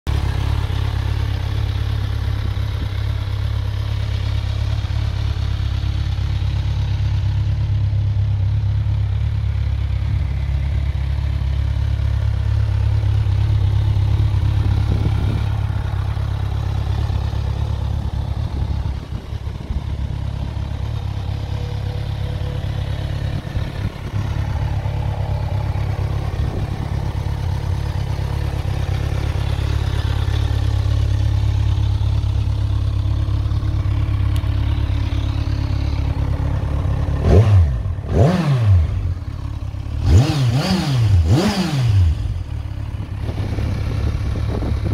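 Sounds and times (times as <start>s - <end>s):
motorcycle engine idling: 0.1s - 44.9s.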